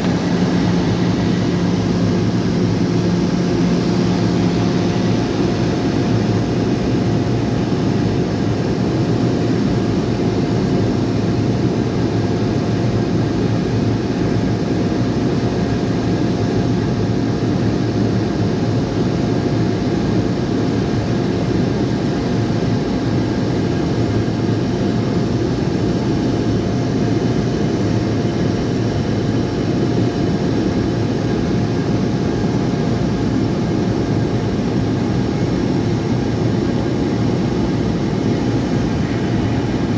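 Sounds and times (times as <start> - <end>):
propeller plane cabin drone: 0.0 - 39.9.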